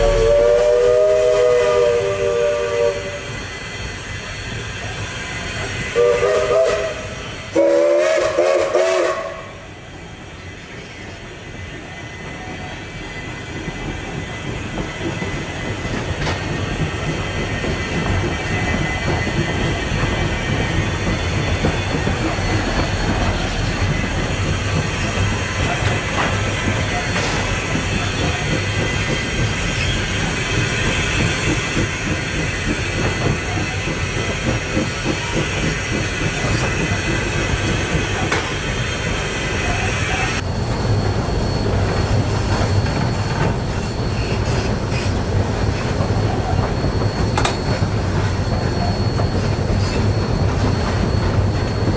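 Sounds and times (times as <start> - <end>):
steam locomotive rumble and clatter: 0.0 - 51.9.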